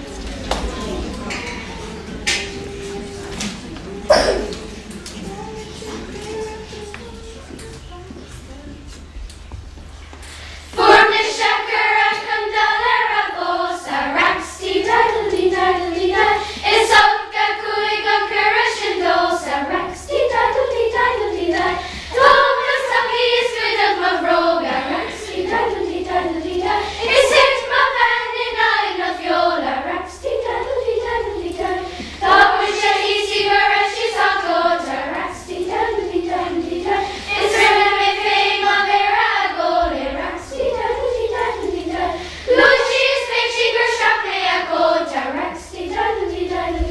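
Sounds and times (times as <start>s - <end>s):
children's choir singing: 0.0s - 46.9s.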